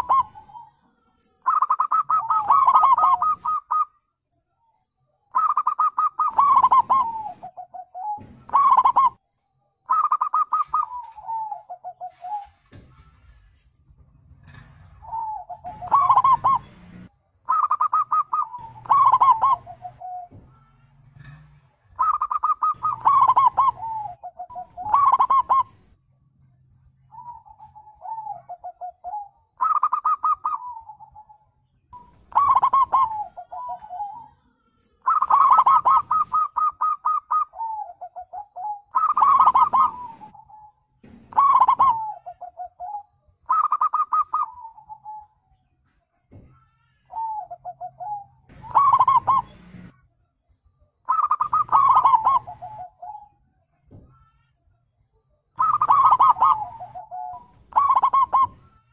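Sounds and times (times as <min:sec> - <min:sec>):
doves cooing: 0:00.0 - 0:04.0, 0:05.3 - 0:09.2, 0:09.9 - 0:13.5, 0:14.2 - 0:26.0, 0:27.1 - 0:31.4, 0:32.0 - 0:34.4, 0:35.0 - 0:45.4, 0:46.4 - 0:49.9, 0:51.1 - 0:53.4, 0:55.6 - 0:58.9.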